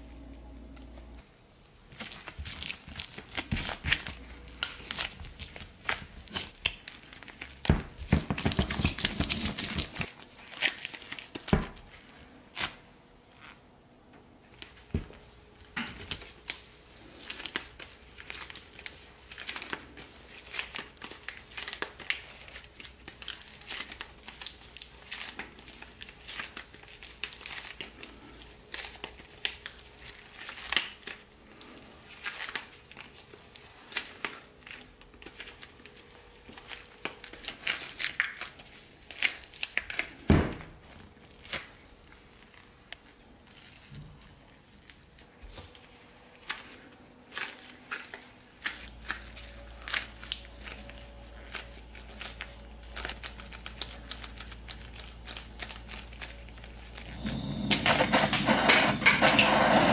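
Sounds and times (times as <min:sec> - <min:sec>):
sticky sugar crinkling and crackling: 0:00.7 - 0:13.4, 0:14.5 - 0:59.9.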